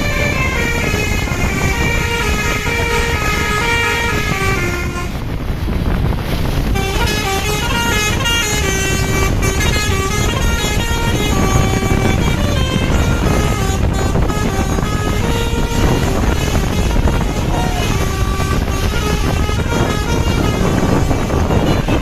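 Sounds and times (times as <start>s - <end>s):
multi-tone bus horn melody: 0.0s - 5.6s, 6.5s - 22.0s.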